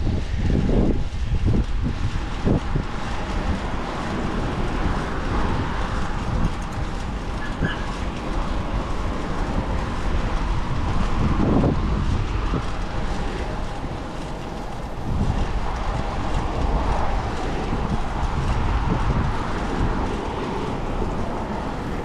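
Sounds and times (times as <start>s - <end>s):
bicycle tyre rumble on road: 0.0s - 22.0s
wind buffeting microphone: 0.0s - 22.0s.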